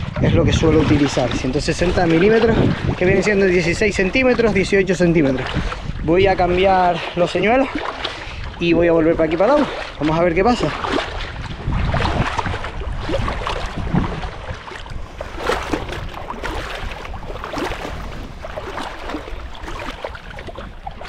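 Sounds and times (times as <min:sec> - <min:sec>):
seawater splashing in shallows: 0:00.0 - 0:21.0
wind buffeting microphone: 0:00.0 - 0:21.0.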